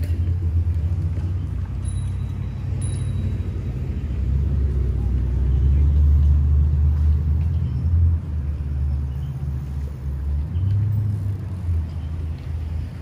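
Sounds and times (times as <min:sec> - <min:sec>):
rumble of motor traffic: 0:00.0 - 0:13.0.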